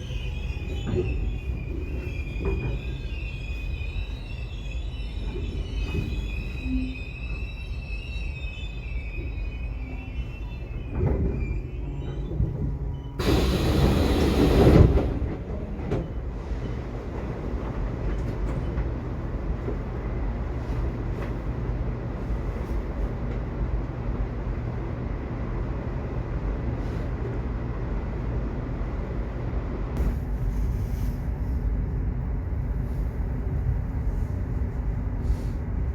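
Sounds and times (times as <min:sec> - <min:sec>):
subway train wheels rumbling: 0:00.0 - 0:35.9.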